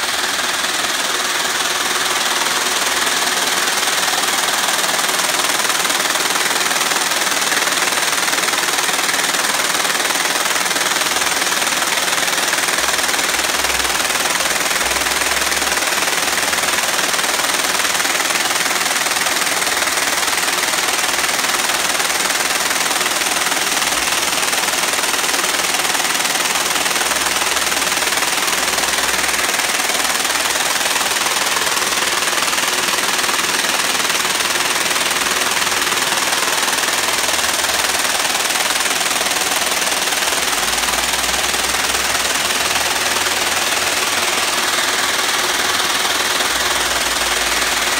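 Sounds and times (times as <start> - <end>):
braiding machine clattering: 0.0 - 47.9.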